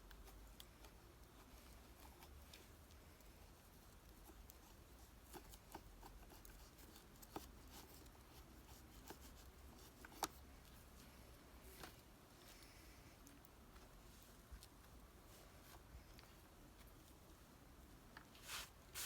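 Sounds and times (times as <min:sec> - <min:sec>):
small clicks and scratches: 0:00.0 - 0:19.0.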